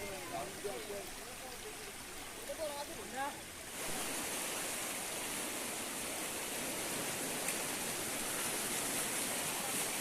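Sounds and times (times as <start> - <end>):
water rushing hiss: 0.0 - 10.0.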